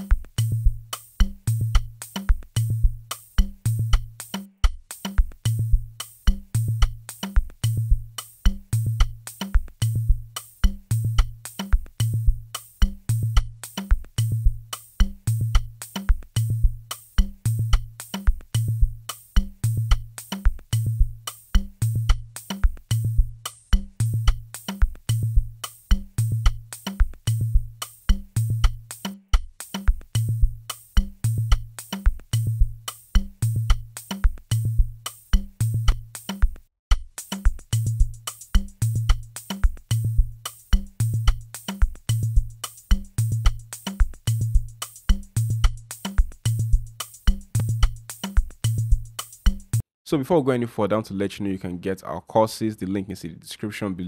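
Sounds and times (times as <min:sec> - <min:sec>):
hi-hats and percussion clicking: 0:00.0 - 0:49.8
deep kick drum: 0:00.1 - 0:49.8.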